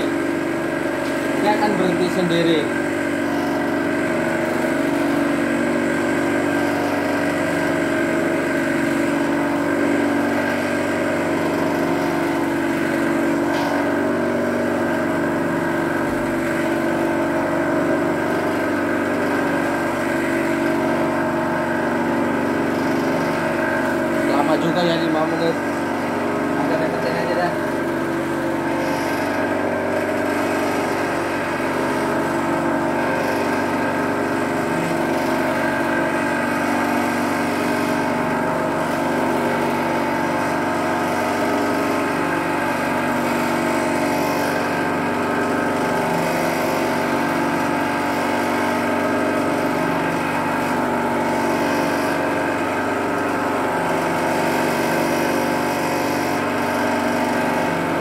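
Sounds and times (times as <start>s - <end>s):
thread winding machine motor hum: 0.0s - 58.0s.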